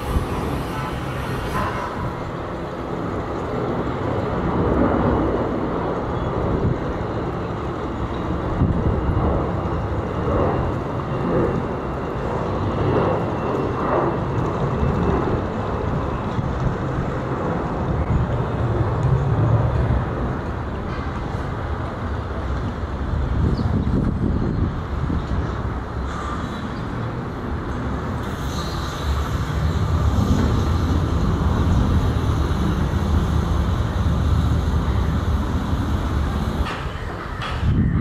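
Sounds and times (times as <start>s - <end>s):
jet engines rumbling at takeoff: 0.0s - 38.0s.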